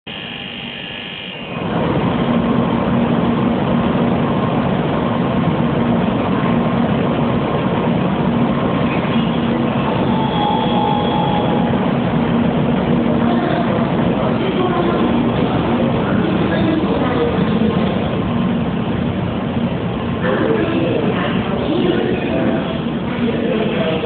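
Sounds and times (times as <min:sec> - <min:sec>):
train running hum: 0:00.1 - 0:24.0.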